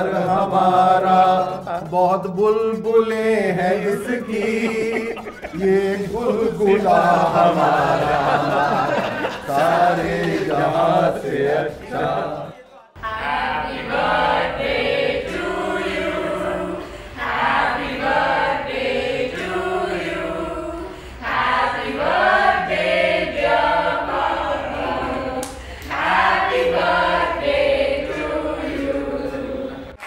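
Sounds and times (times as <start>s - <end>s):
group singing unaccompanied: 0.0s - 30.0s.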